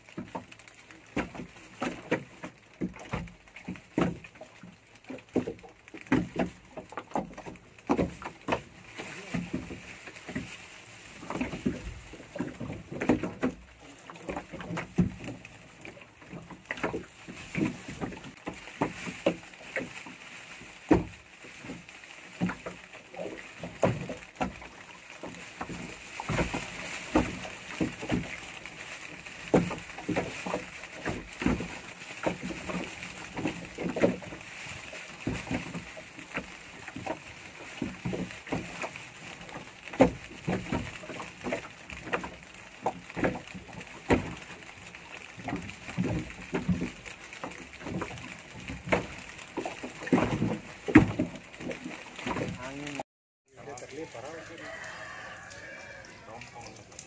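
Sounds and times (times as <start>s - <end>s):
waves slapping boat hull: 0.0s - 57.0s.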